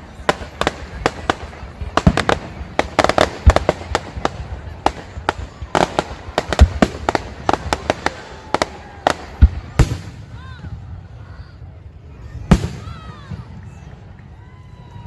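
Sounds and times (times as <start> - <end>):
fireworks bangs and cracks: 0.0 - 11.2, 12.4 - 14.5
deep fireworks booms: 0.0 - 11.8, 12.4 - 14.0.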